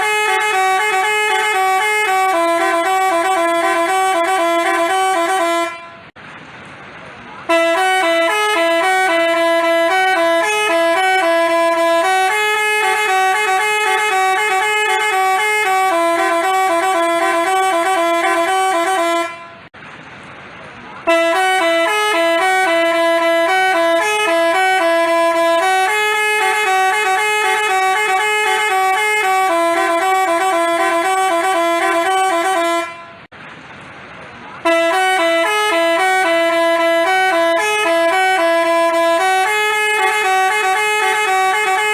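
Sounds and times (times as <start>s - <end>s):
multi-tone bus horn jingle: 0.0s - 6.2s, 7.4s - 19.8s, 21.0s - 33.3s, 34.6s - 41.9s.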